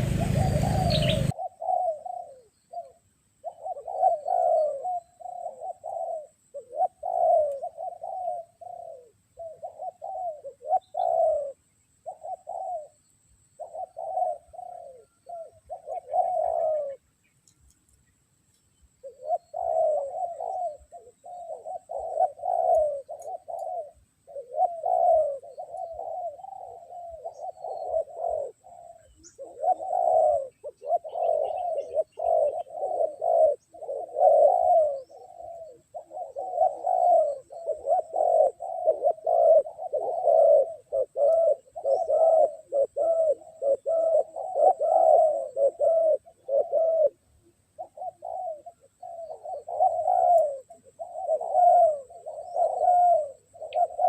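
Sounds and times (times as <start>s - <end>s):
doves cooing: 0.0s - 17.2s, 18.9s - 54.0s.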